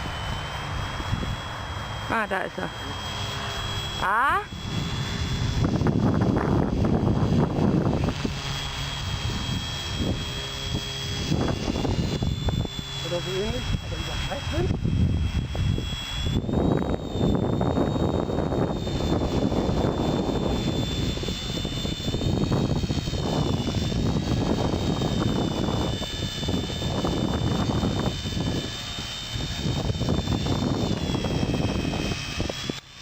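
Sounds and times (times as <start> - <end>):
wind buffeting microphone: 0.0 - 2.1, 2.9 - 33.0
toy helicopter motor whine: 0.0 - 33.0.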